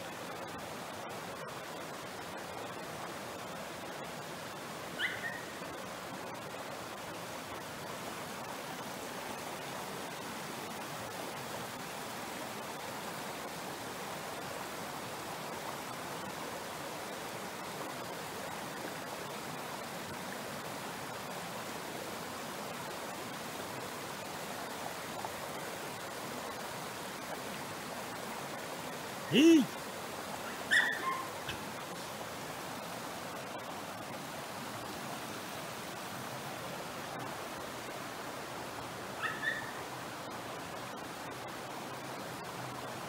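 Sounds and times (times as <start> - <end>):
mountain stream flowing: 0.0 - 43.0.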